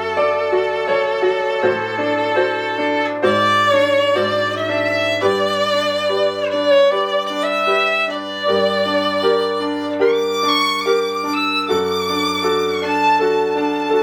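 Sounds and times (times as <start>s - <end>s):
piano chords: 0.0s - 14.0s
violin melody with vibrato: 0.0s - 14.0s.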